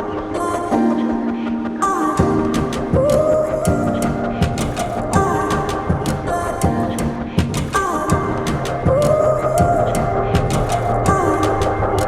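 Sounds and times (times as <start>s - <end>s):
synth melody: 0.0s - 12.0s
percussion ticks: 2.1s - 12.0s.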